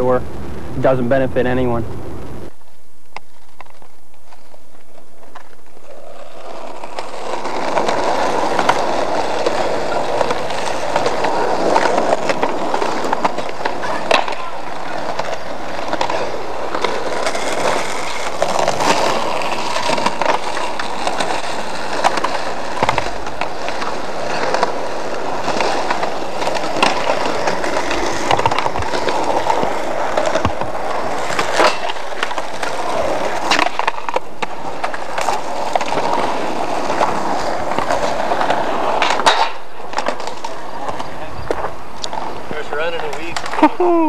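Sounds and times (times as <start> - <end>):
skateboard wheels rolling on concrete: 0.0 - 44.0
skateboards clacking on ground: 0.0 - 44.0.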